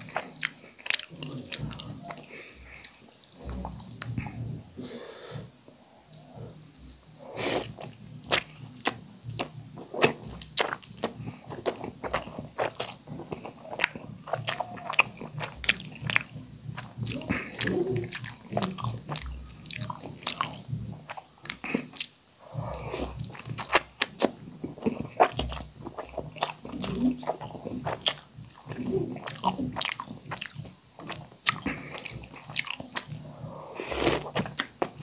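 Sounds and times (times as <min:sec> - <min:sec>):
wet chewing and lip-smacking: 0:00.0 - 0:04.3, 0:06.2 - 0:35.0.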